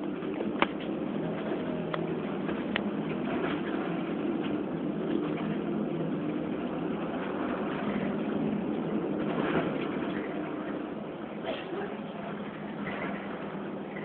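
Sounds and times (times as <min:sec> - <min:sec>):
bus diesel engine hum: 0:00.0 - 0:14.0.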